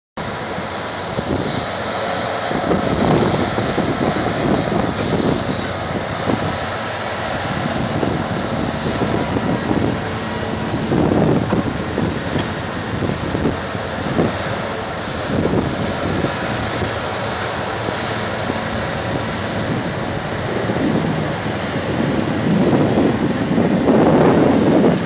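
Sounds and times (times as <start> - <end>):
excavator diesel engines running: 0.2 - 25.0
wind buffeting microphone: 0.2 - 25.0.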